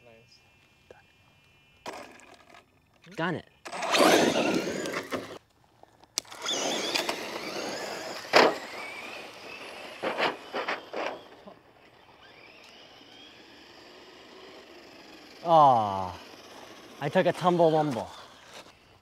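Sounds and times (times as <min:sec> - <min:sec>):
electric motor whining: 0:01.4 - 0:05.4, 0:06.2 - 0:19.0
tyres on gravel: 0:01.6 - 0:19.0.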